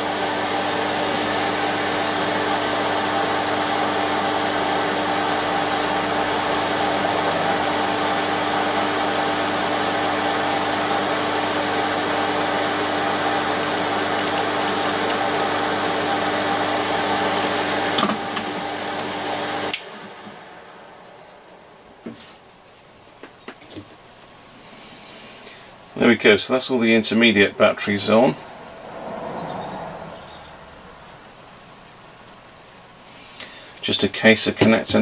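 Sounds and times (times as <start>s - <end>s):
extractor fan whirring: 0.0s - 35.0s.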